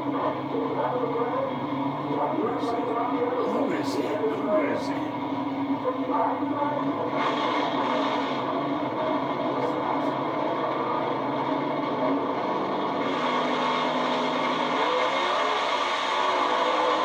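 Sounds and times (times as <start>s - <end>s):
racing truck engines running: 0.0s - 17.0s.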